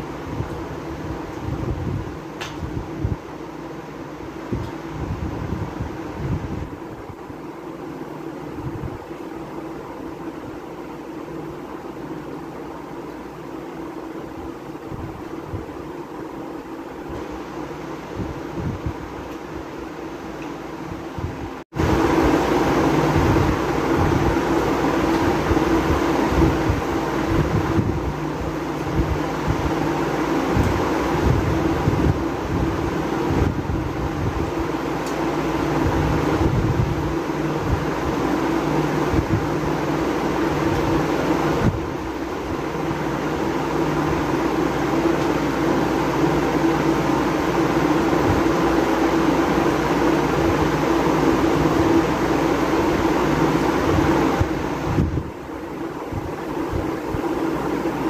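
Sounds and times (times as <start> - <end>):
electric fan humming: 0.0 - 58.0.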